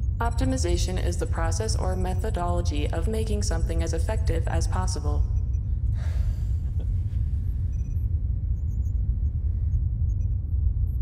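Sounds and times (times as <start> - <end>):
deep engine rumble: 0.0 - 11.0.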